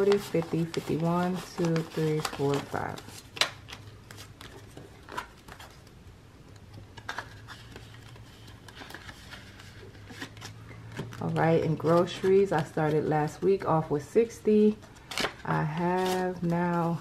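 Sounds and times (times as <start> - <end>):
paper banknotes rustling: 0.0 - 5.9, 7.0 - 13.5, 14.6 - 17.0.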